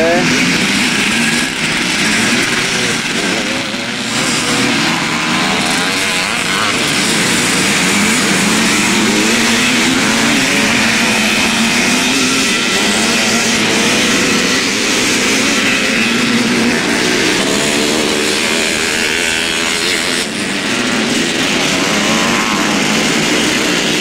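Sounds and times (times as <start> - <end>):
motocross engines racing: 0.0 - 24.0.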